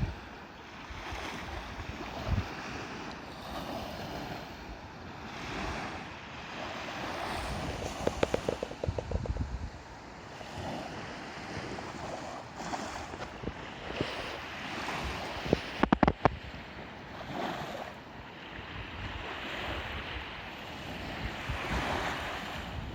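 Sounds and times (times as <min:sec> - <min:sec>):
waves washing onto beach: 0:00.0 - 0:22.9
wind buffeting microphone: 0:00.0 - 0:22.9.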